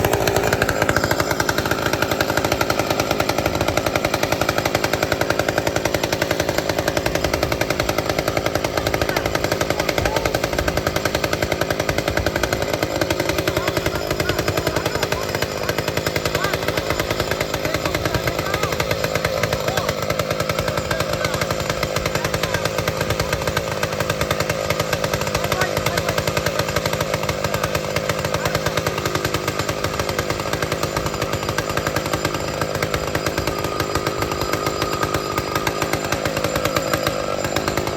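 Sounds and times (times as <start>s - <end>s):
chainsaw running at high speed: 0.0s - 37.9s.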